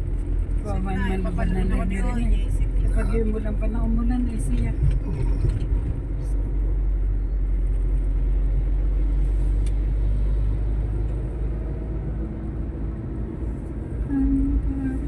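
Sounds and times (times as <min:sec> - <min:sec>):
road vehicle rumbling: 0:00.0 - 0:15.0.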